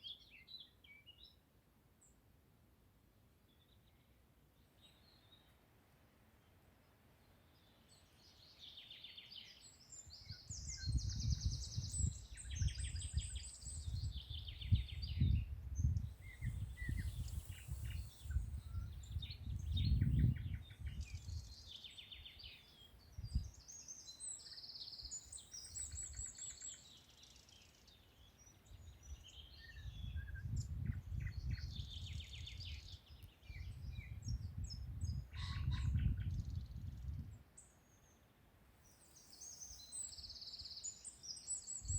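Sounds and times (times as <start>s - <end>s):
songbirds singing and chirping: 0.0s - 2.3s, 3.3s - 5.6s, 6.3s - 41.9s.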